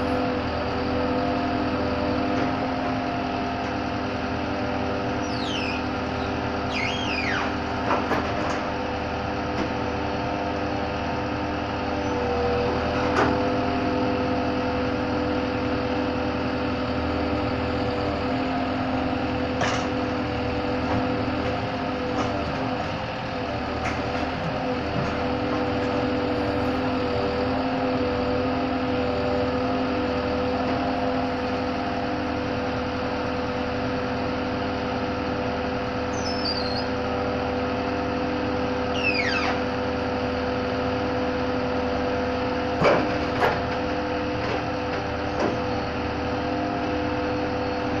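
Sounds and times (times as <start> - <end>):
crane engine and hydraulics humming: 0.0 - 48.0.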